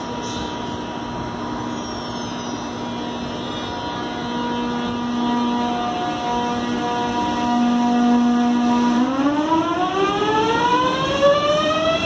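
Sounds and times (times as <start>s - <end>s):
electric train humming tones: 0.0s - 12.0s
train rolling noise: 0.0s - 12.0s.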